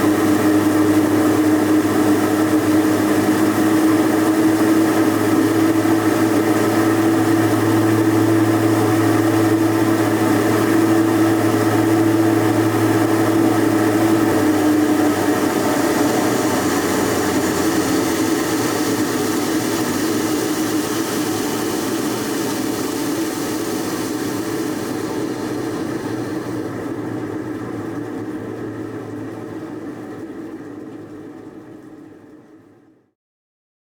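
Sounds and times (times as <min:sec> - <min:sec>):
water jet rushing spray: 0:00.0 - 0:31.3
water turbine humming: 0:00.0 - 0:32.8.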